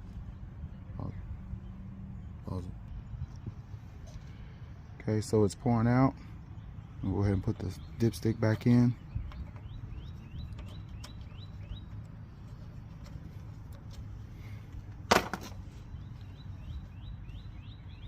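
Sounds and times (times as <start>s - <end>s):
bird chirping: 0.0s - 14.9s, 15.6s - 18.0s.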